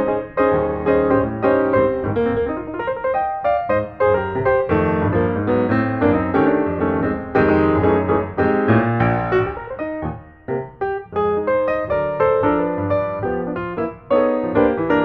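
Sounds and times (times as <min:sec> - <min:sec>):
piano piece: 0:00.0 - 0:15.0.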